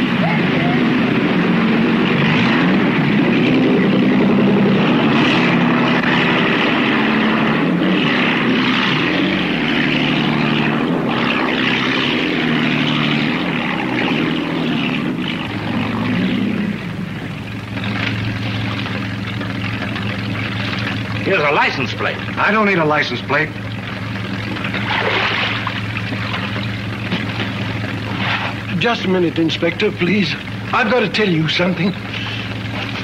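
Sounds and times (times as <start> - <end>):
motorboat engine running: 0.0 - 33.0
water rushing and splashing: 0.0 - 33.0.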